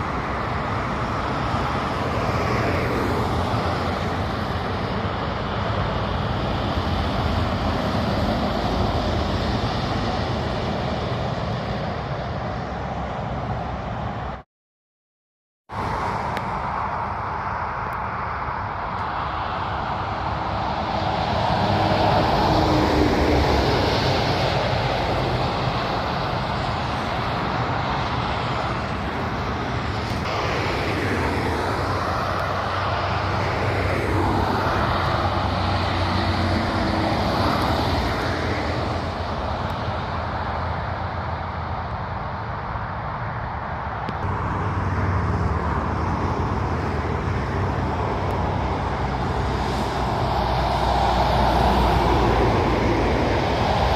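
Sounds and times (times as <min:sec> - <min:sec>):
trucks diesel engines: 0:00.0 - 0:14.4, 0:15.7 - 0:53.9
tyre noise of passing vehicles: 0:00.0 - 0:14.4, 0:15.7 - 0:53.9.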